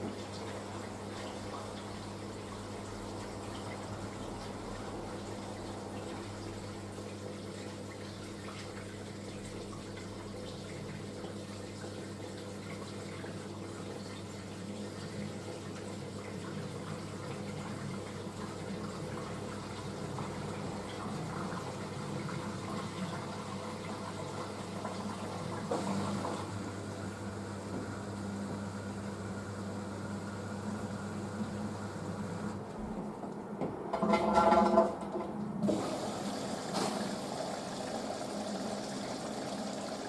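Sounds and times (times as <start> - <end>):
washing machine low hum: 0.0 - 40.0.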